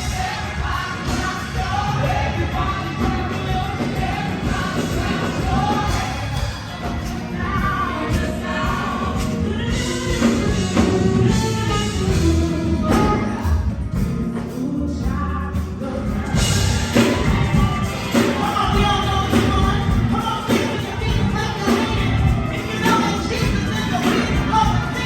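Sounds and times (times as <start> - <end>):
backing band playing: 0.0 - 25.0
person singing gospel: 0.0 - 25.0.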